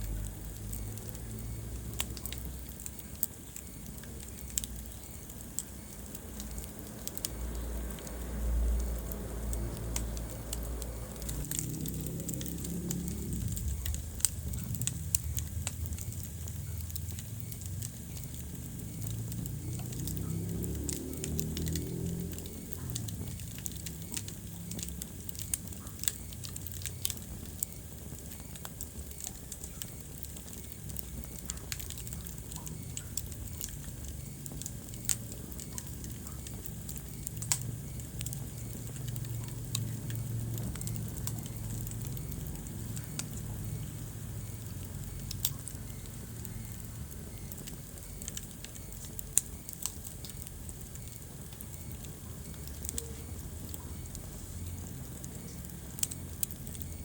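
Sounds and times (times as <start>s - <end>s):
fire popping and snapping: 0.0s - 57.0s
low rumble of flames: 0.0s - 57.0s.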